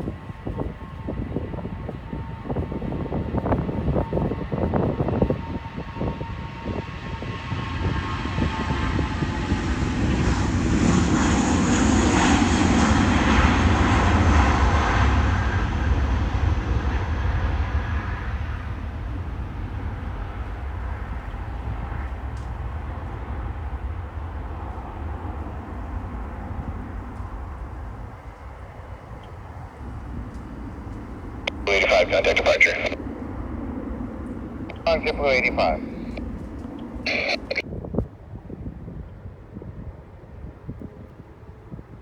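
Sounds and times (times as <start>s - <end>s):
jet airliner taking off: 0.0s - 37.6s.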